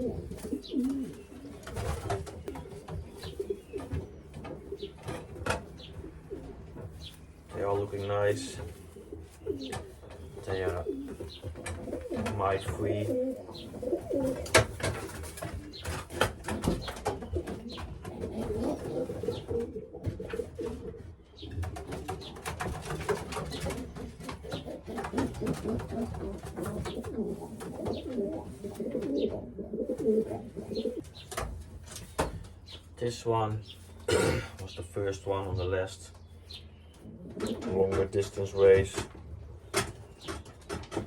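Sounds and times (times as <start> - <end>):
knocks and rustles: 0.0 - 32.8, 37.2 - 41.0
pigeons cooing: 0.0 - 32.9, 35.5 - 41.0.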